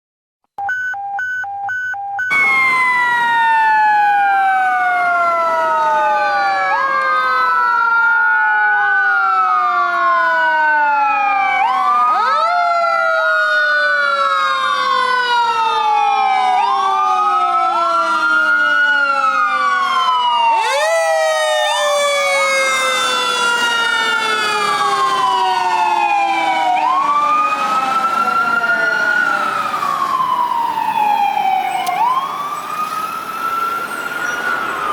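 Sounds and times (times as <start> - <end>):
electronic sirens wailing: 0.6 - 34.9
mechanical siren wailing: 0.6 - 34.9.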